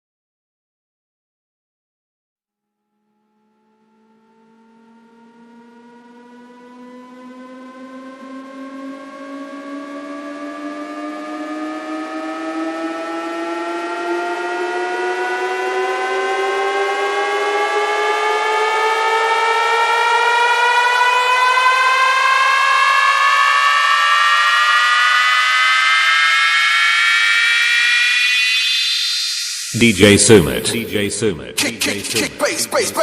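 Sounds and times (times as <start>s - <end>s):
rising synthesized riser tone: 3.4s - 33.0s.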